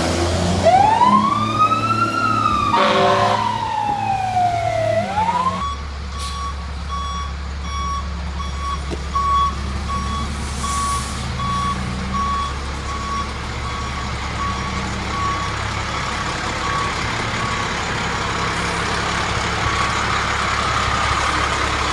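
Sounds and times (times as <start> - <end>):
truck engine droning: 0.0 - 21.9
truck backup alarm beeping: 0.7 - 21.9.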